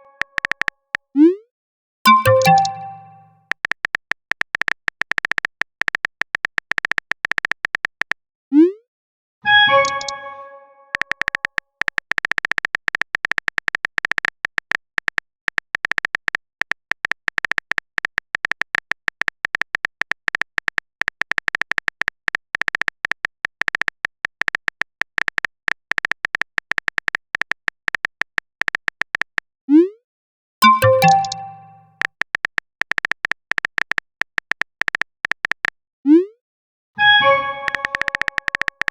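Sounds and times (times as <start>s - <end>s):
phone keyboard typing clicks: 0.0s - 0.8s, 2.1s - 8.2s, 9.8s - 10.1s, 11.0s - 29.5s, 30.6s - 35.8s, 37.6s - 38.9s.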